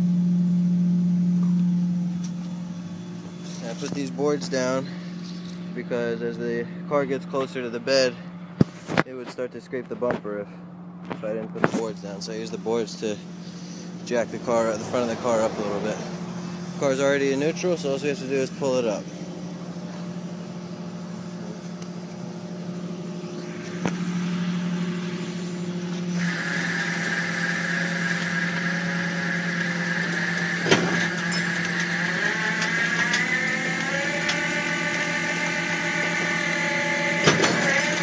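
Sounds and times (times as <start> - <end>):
winch whine: 0.0 - 9.0, 9.8 - 38.0
truck engine low hum: 0.0 - 38.0.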